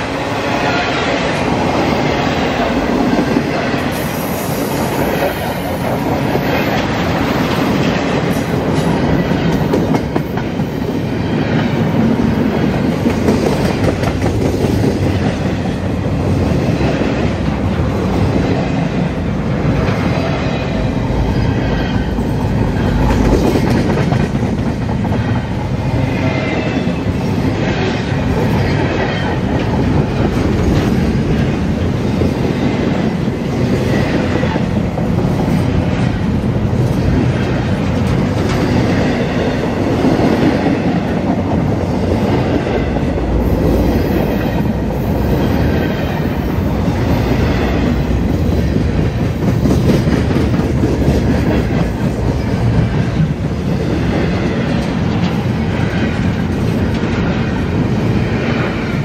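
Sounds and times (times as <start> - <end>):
steel wheels rumbling on rails: 0.0 - 59.0.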